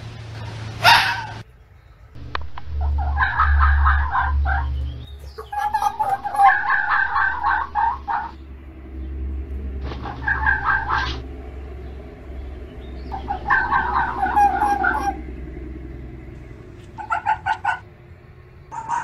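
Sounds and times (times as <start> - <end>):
low rumble: 0.0 - 19.0
fox calling: 0.8 - 1.4, 2.2 - 18.0, 18.6 - 19.0.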